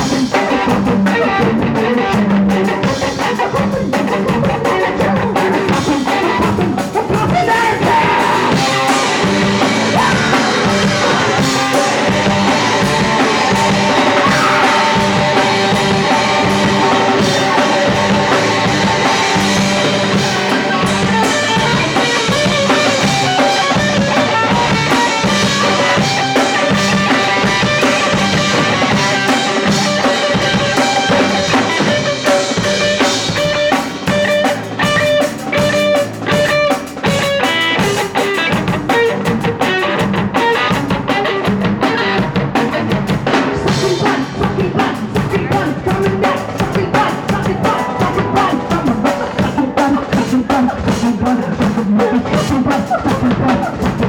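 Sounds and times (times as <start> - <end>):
drum kit pounding fast beat: 0.0 - 54.0
guitar: 0.0 - 54.0
punk rock band playing live: 0.0 - 54.0.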